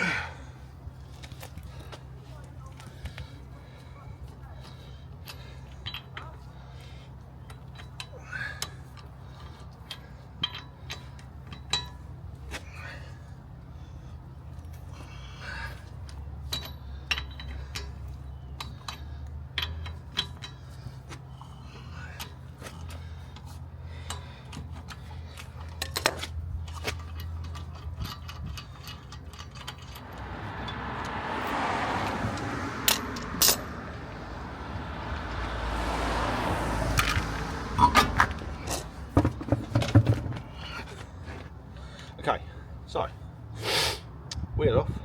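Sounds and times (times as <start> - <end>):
hand tools clinking on wheel nuts: 1.1 - 13.2, 14.6 - 34.2, 36.9 - 42.1.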